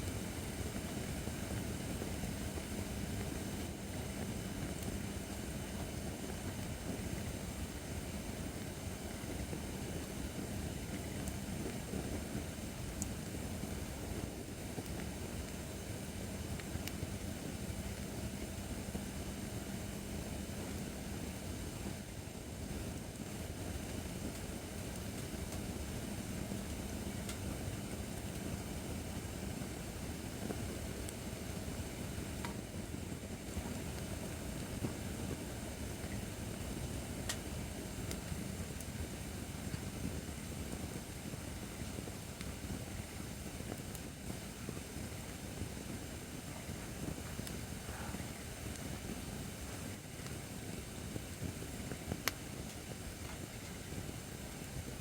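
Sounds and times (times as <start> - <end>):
campfire burning and crackling: 0.0 - 55.0.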